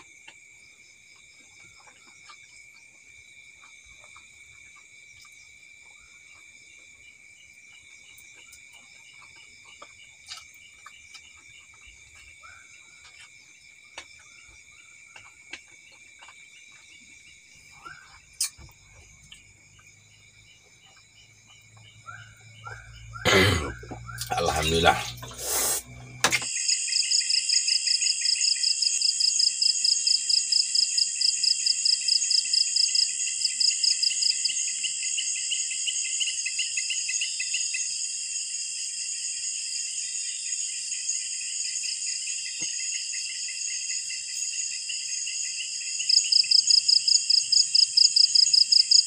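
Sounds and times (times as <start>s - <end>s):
frogs and insects calling: 0.0s - 49.0s.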